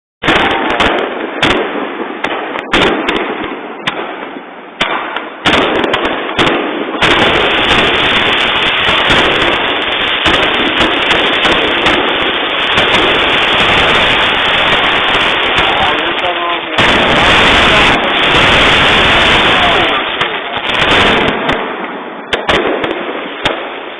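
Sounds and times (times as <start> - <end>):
barrage of crackling fireworks: 0.2 - 23.9
firework bangs with echo: 0.2 - 23.9.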